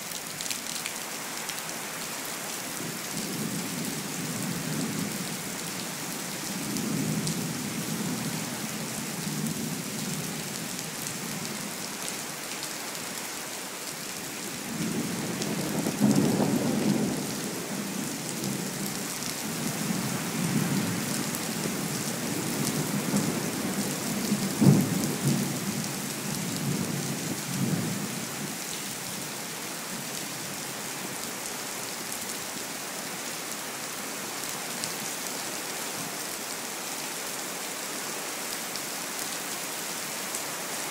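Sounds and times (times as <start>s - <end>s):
steady rain hissing: 0.0s - 40.9s.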